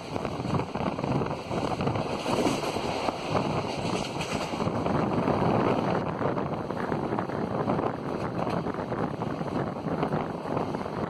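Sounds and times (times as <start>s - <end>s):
train running on track: 0.0s - 11.0s
wind buffeting microphone: 0.0s - 11.0s
wind rushing: 0.0s - 11.0s.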